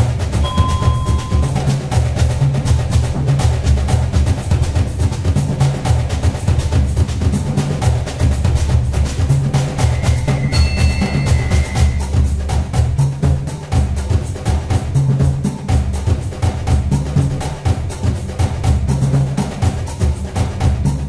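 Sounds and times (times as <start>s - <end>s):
upbeat music with drum beat: 0.0s - 21.0s.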